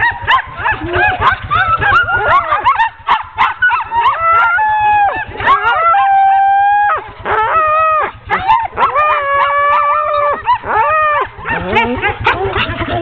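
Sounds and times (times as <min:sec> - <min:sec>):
sled dogs howling and yelping: 0:00.0 - 0:13.0.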